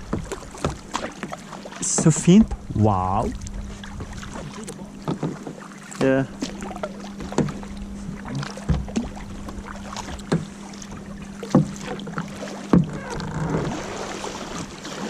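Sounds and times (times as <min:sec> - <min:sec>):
steady low hum: 0:00.0 - 0:14.9
paddles splashing in water: 0:00.0 - 0:15.0.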